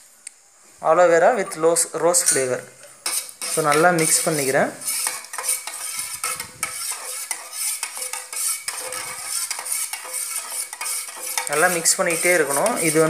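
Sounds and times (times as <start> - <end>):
spoon scraping metal bowl: 1.4 - 13.0.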